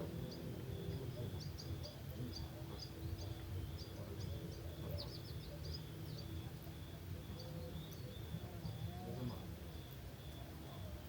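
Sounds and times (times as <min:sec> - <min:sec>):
cricket chirping: 0:00.0 - 0:11.0
small bird chirping: 0:00.1 - 0:10.9.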